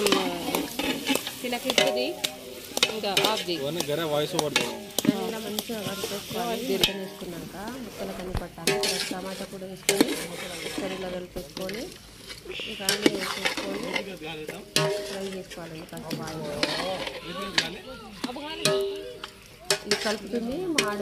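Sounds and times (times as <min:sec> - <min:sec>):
metal ladle scraping a pot: 0:00.0 - 0:17.7, 0:18.6 - 0:21.0
curry sizzling in a pot: 0:00.0 - 0:21.0
people's voices: 0:00.0 - 0:21.0.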